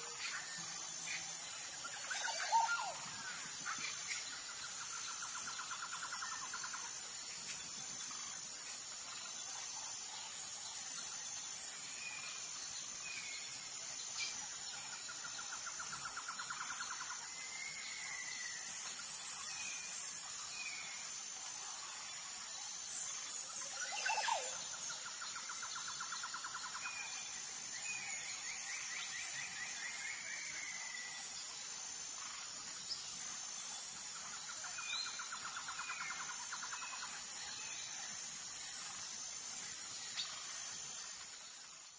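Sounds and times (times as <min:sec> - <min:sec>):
high insect drone: 0:00.0 - 0:41.9.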